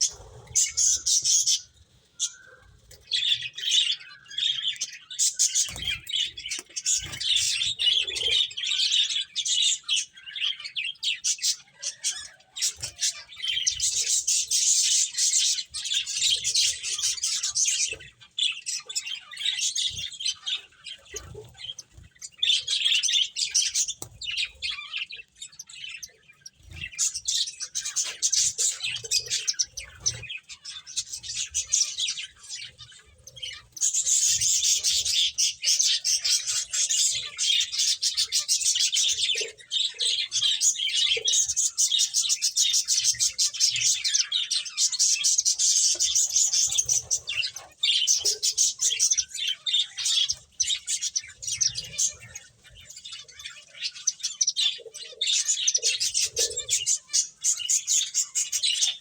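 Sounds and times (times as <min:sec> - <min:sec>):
finches chirping: 0:00.0 - 0:59.0.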